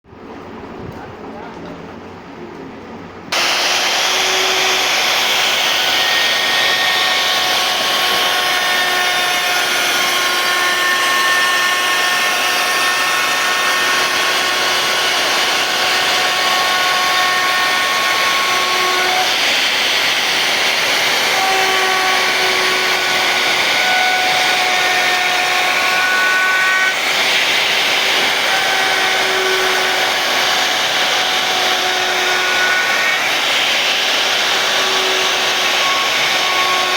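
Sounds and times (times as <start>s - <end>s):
router spindle cutting wood: 3.3s - 36.9s.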